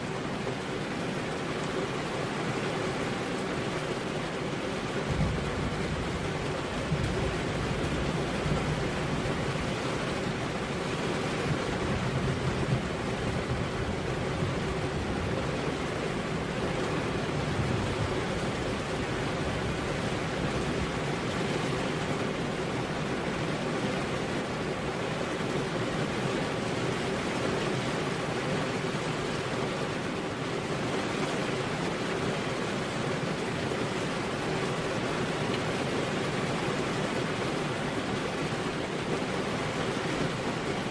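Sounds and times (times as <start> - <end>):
heavy rain on a road: 0.0 - 40.9.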